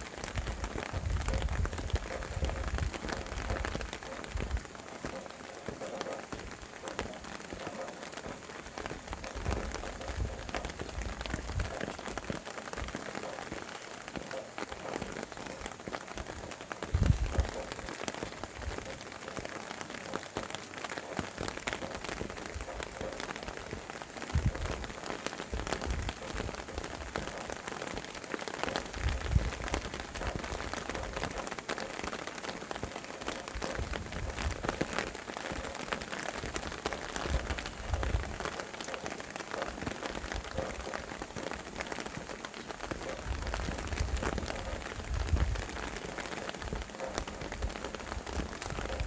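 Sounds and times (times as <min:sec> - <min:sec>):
low wind gusts: 0:00.0 - 0:49.0
steady rain patter: 0:00.0 - 0:49.0.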